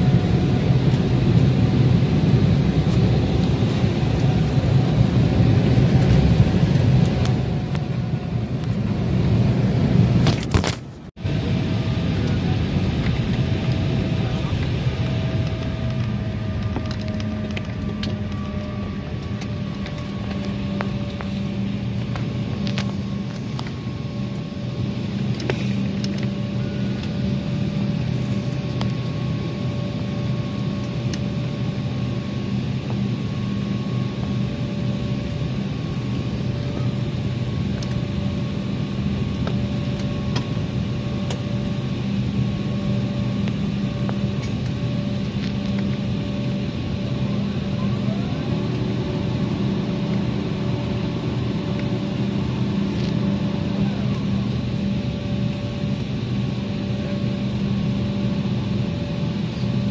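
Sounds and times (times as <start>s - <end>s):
jet engine hum in cabin: 0.0s - 59.9s.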